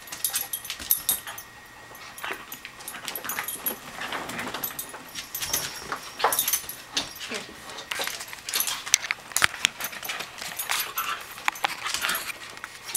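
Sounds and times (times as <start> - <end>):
dogs scuffling on vinyl floor: 0.0 - 12.9.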